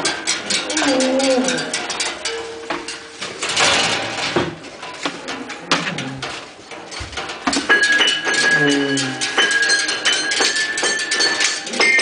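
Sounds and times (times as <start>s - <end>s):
ringing tones from metal rims: 0.0s - 5.6s, 6.3s - 12.0s
sticks rattling on bicycle rims: 0.0s - 12.0s.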